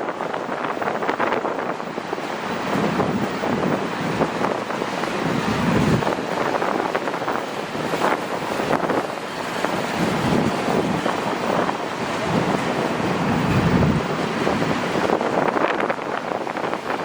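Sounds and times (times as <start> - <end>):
train clatter: 0.0 - 17.0
train wheels rushing on rails: 0.0 - 17.0.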